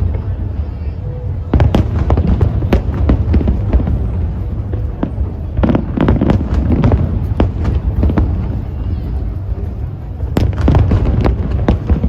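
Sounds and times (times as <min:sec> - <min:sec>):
fireworks bangs and pops: 0:01.5 - 0:12.0.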